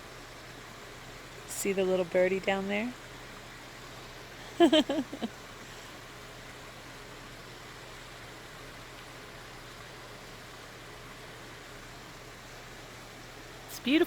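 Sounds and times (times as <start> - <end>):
creek flowing: 0.0 - 14.0.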